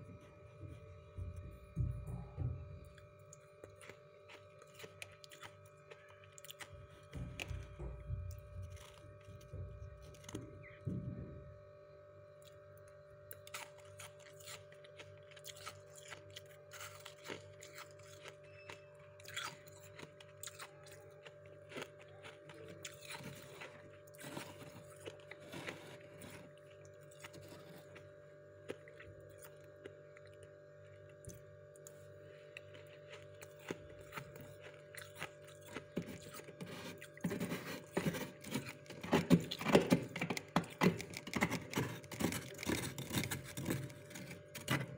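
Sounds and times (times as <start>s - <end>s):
appliance hum: 0.0s - 44.9s
crunching of freezer frost: 2.7s - 11.0s, 11.7s - 44.9s.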